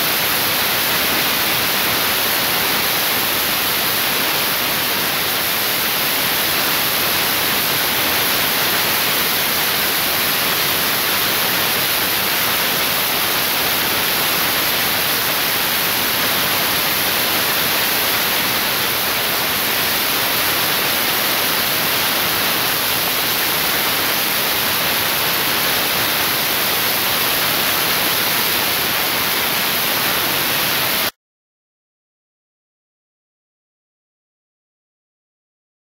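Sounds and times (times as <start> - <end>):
static-like hiss: 0.0 - 31.1.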